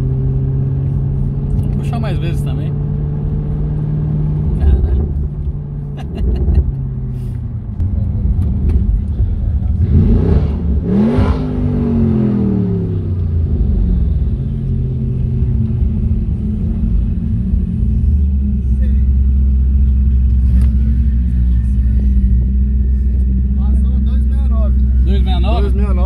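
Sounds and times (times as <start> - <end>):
car engine running at low speed: 0.0 - 26.0.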